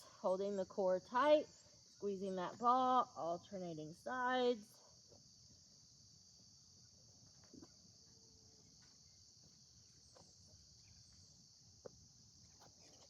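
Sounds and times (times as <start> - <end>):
faint crickets chirping: 0.0 - 13.0.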